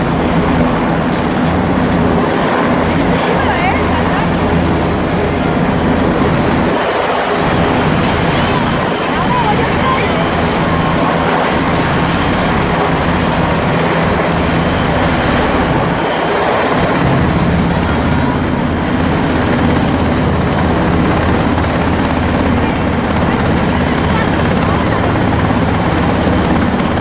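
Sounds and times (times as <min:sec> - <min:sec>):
helicopter rotor chopping: 0:00.0 - 0:27.0.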